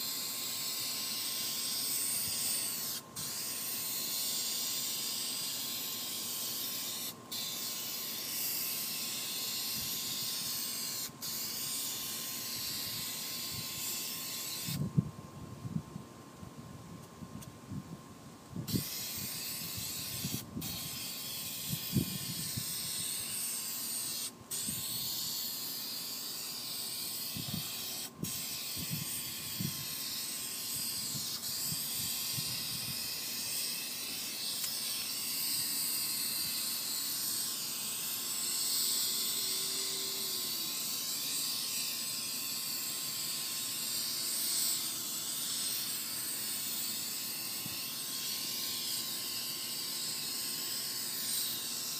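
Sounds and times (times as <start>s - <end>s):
aerosol spray can hissing: 0.0s - 14.8s, 18.6s - 51.9s.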